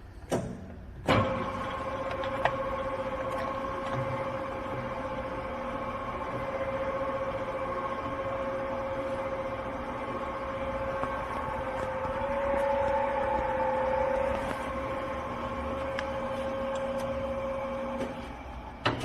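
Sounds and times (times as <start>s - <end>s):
lathe gear whine: 1.2s - 19.0s.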